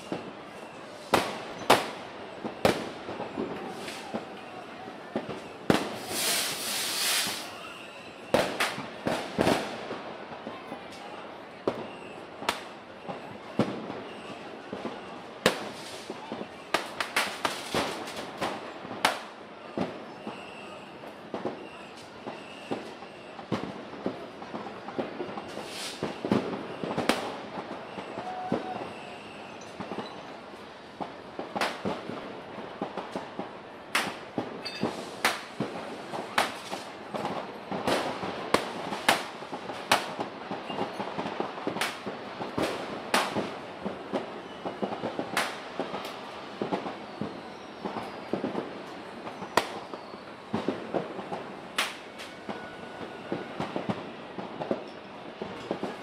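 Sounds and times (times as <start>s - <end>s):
firework bangs: 0.0s - 56.0s.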